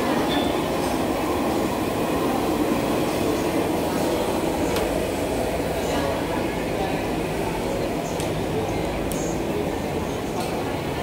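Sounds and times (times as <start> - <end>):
crowd of diners chattering: 0.0 - 11.0.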